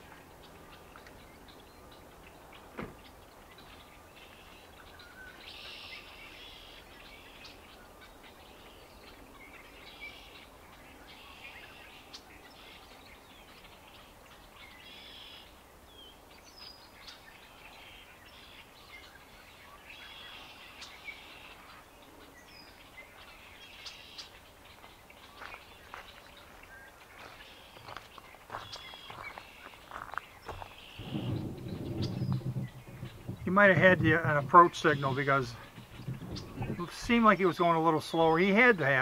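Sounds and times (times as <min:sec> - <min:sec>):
birds chirping: 0:00.0 - 0:39.0
faint background noise: 0:00.0 - 0:39.0.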